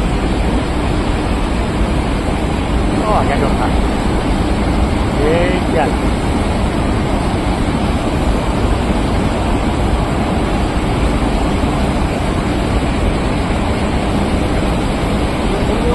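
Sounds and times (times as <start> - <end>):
water rushing through dam gates: 0.0 - 15.9.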